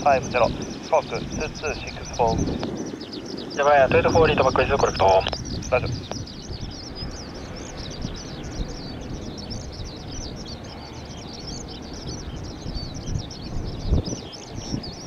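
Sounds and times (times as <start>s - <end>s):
bird singing rapid chirps: 0.0s - 15.0s
wind rumble: 0.0s - 15.0s.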